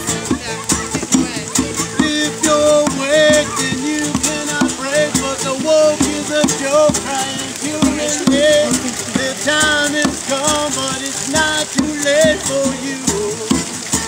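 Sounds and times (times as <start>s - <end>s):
hand drum beat: 0.0s - 14.0s
man singing: 0.0s - 14.0s
strummed acoustic guitar: 0.0s - 14.0s.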